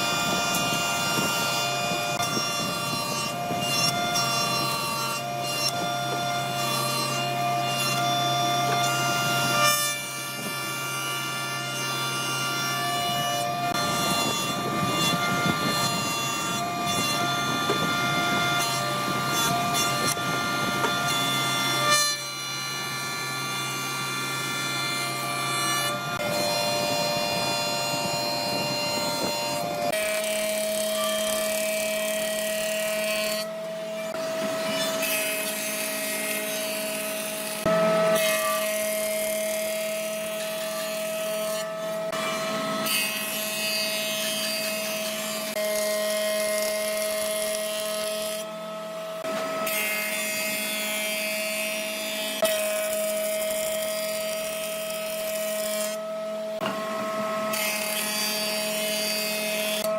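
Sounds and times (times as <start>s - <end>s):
saw rasping through wood: 0.0s - 59.9s
woodworking machine motor: 0.0s - 59.9s.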